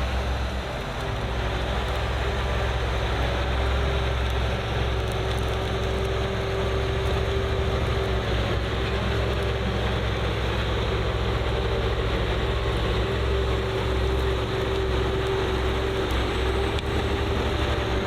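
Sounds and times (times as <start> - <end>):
constant machine whine: 0.0 - 18.0
deep engine rumble: 0.0 - 18.0.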